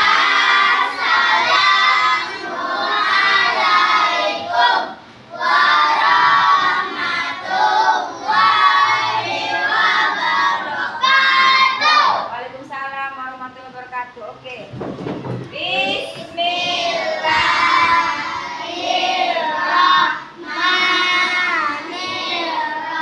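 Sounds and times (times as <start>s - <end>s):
children singing in unison: 0.0s - 12.3s, 16.0s - 23.0s.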